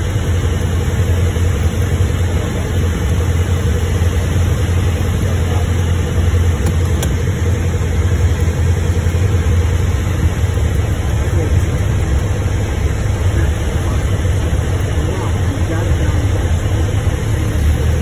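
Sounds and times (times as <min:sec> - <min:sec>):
airplane engine and propeller drone: 0:00.0 - 0:18.0.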